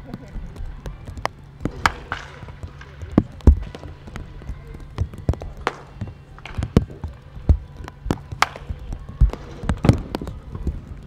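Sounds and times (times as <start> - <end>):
balls being hit and caught: 0.0 - 11.0
steady low hum: 0.0 - 11.0.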